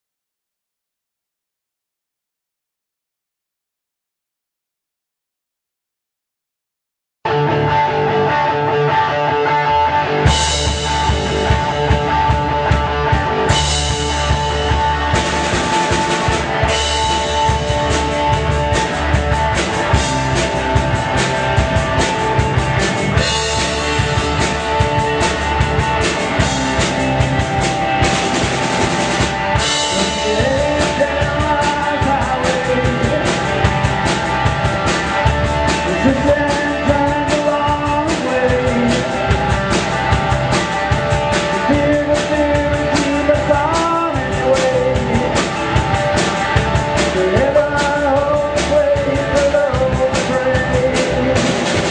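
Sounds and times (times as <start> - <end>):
bass guitar: 7.2 - 51.9
guitar: 7.2 - 51.9
drum kit beat: 10.2 - 51.9.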